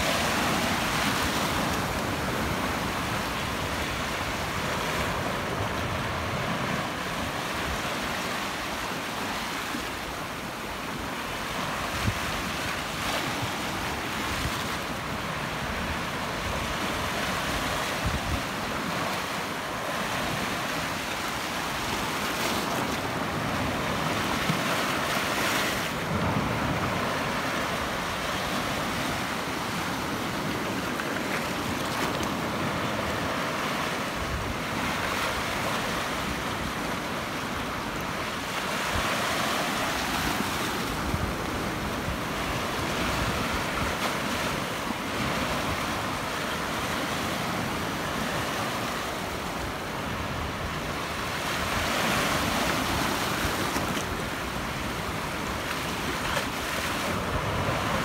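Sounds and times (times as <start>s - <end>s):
waves washing over rocks: 0.0s - 58.0s.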